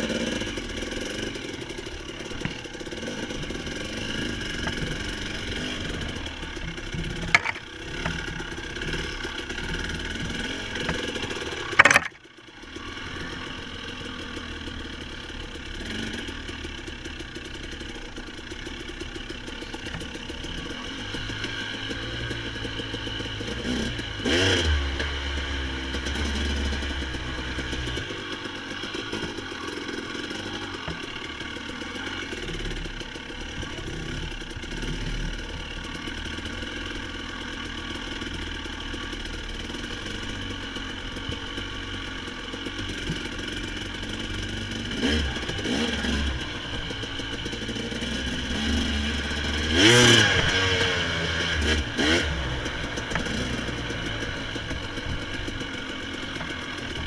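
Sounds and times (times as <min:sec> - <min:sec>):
small off-road vehicle engine revving: 0:00.0 - 0:57.0.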